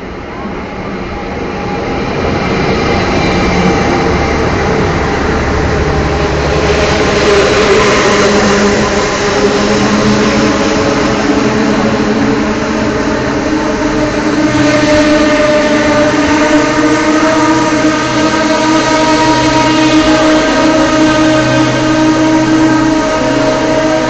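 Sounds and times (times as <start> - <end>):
train running hum: 0.0 - 24.0.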